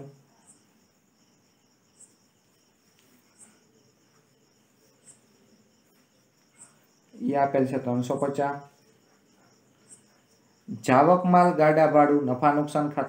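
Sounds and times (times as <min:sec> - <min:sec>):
faint high insect chirp: 0:00.0 - 0:13.0.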